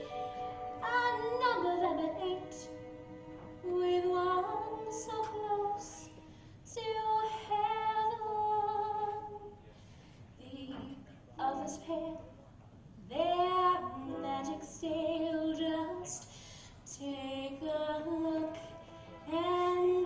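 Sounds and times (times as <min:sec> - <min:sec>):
woman singing: 0:00.0 - 0:02.8, 0:03.6 - 0:09.5, 0:10.4 - 0:12.2, 0:13.1 - 0:16.2, 0:16.9 - 0:20.0.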